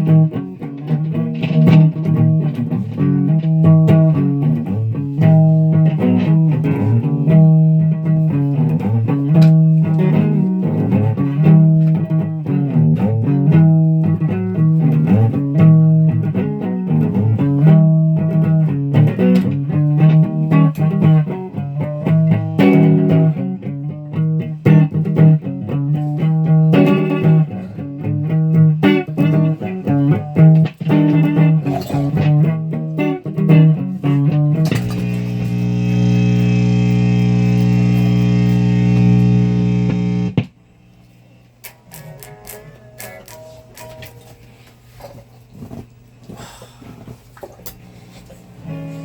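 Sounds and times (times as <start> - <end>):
electric guitar plucked notes: 0.0 - 40.6, 41.6 - 44.4.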